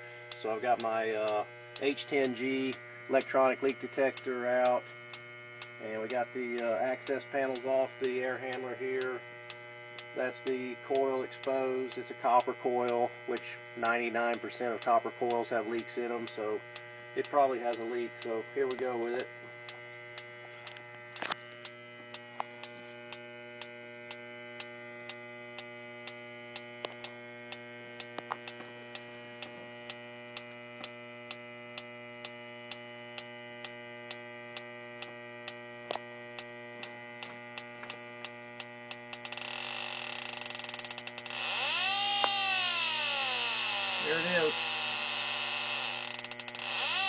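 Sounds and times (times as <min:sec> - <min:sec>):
steady hum: 0:00.0 - 0:47.0
leak detector ticking: 0:00.3 - 0:47.0.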